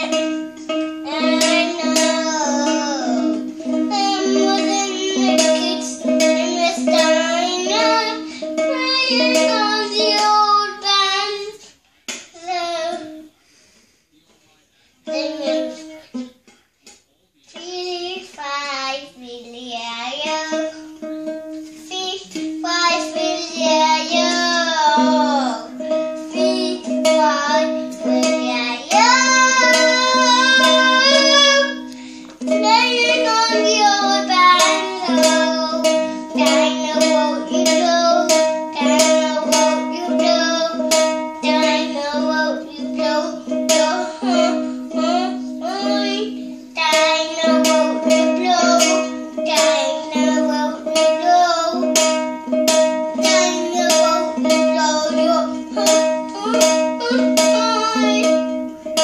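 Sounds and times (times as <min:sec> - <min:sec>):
ukulele strummed: 0:00.0 - 0:11.5, 0:20.2 - 0:59.0
child singing tunelessly: 0:00.0 - 0:13.4, 0:14.5 - 0:16.4, 0:17.5 - 0:59.0.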